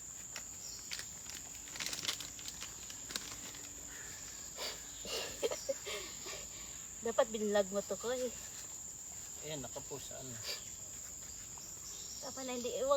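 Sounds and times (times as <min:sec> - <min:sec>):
insects droning: 0:00.0 - 0:12.9
leaves rustling: 0:00.0 - 0:12.9.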